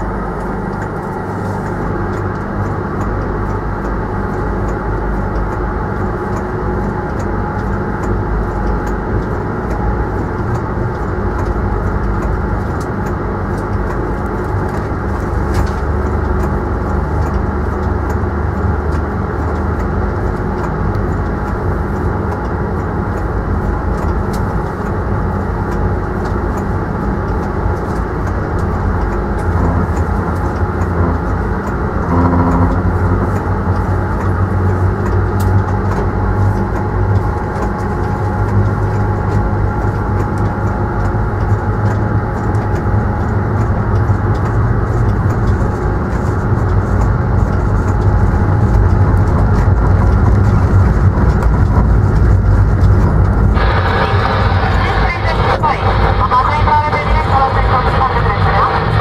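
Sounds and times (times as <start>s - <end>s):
train drone and rumble: 0.0s - 59.0s.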